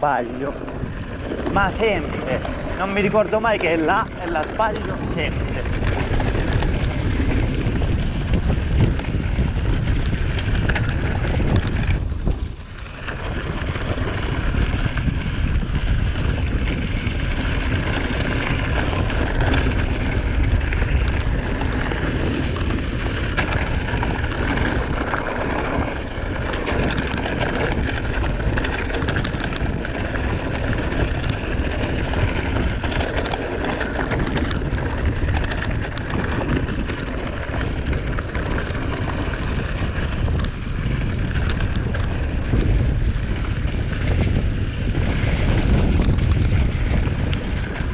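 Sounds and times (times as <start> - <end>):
bike clicks and rattles: 0.0 - 47.9
bike tyre noise: 0.0 - 47.9
wind rushing on microphone: 0.0 - 47.9.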